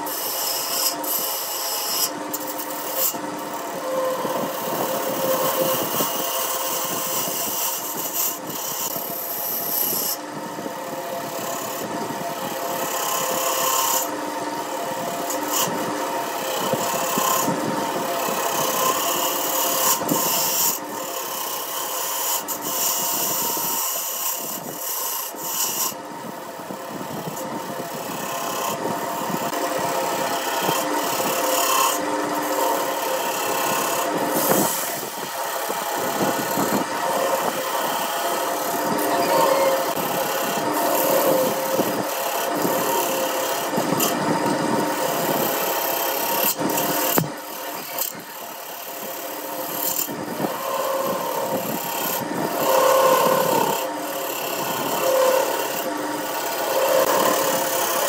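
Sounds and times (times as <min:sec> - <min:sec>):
gouge scraping spinning wood: 0:00.0 - 0:58.0
lathe motor hum: 0:00.0 - 0:58.0.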